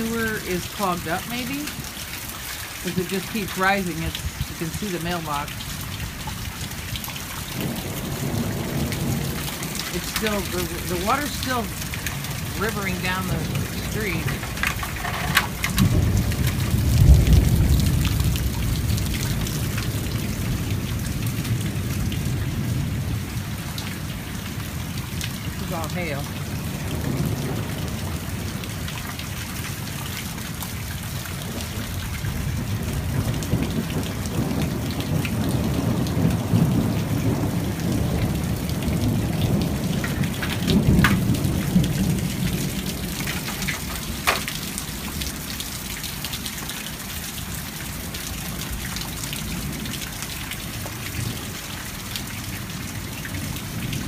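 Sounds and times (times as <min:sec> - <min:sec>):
heavy rain falling: 0:00.0 - 0:54.0
low rumble of thunder: 0:03.6 - 0:54.0.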